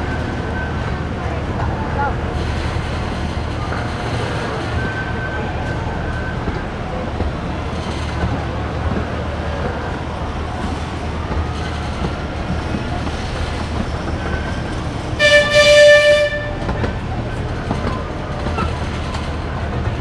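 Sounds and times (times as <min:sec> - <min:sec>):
train rumbling and rattling on rails: 0:00.0 - 0:20.0.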